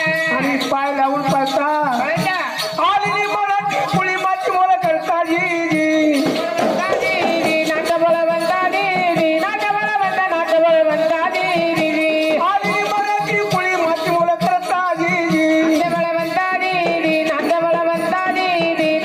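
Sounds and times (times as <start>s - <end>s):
folk accompaniment: 0.0s - 19.0s
soft drum beats: 0.0s - 19.0s.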